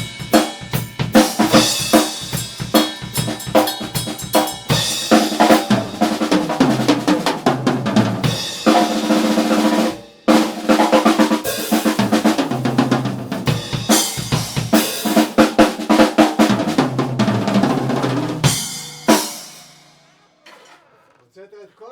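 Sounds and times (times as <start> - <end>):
bass drum: 0.0 - 9.1, 10.7 - 19.2
snare drum rolls and rimshots: 0.0 - 20.2.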